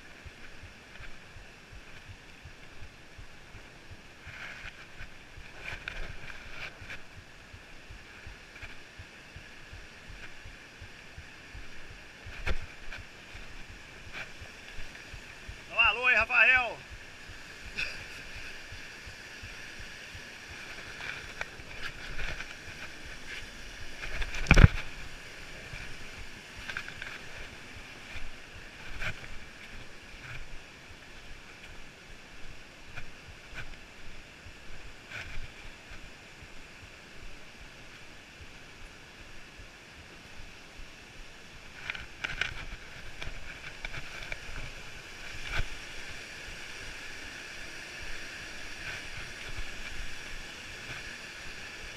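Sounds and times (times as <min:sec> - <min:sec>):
footsteps on a trail: 0:00.0 - 0:40.1, 0:41.1 - 0:47.4
low hiss: 0:00.0 - 0:51.9.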